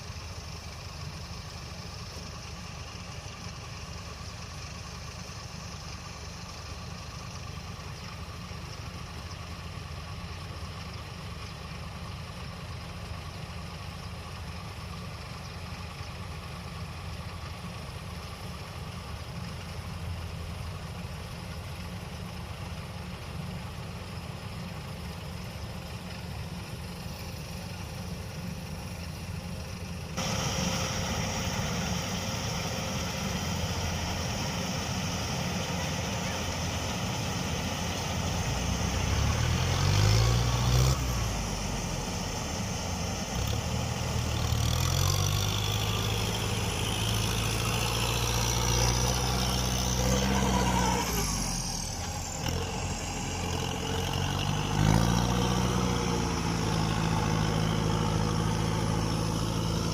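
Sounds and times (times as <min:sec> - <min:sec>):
diesel engine running and revving: 0:00.0 - 0:59.9.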